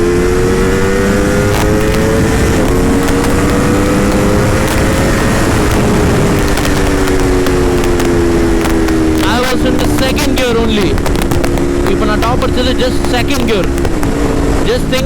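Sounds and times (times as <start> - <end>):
motorcycle engine pulling hard: 0.0 - 15.0
wind rush on microphone: 0.0 - 15.0.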